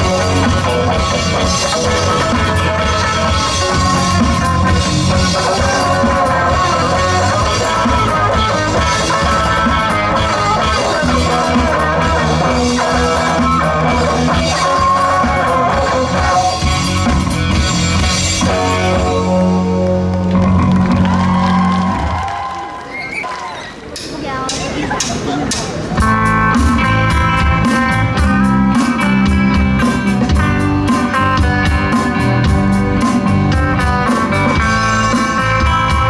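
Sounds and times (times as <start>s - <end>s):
rock band playing: 0.0s - 22.3s, 24.0s - 36.0s.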